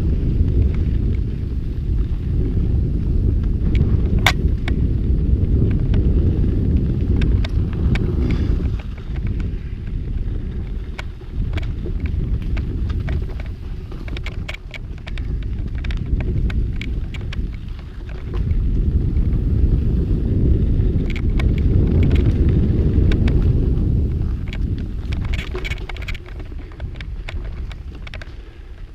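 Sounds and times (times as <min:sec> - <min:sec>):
mountain bike clicks and rattles: 0:00.0 - 0:28.9
wind buffeting microphone: 0:00.0 - 0:28.9.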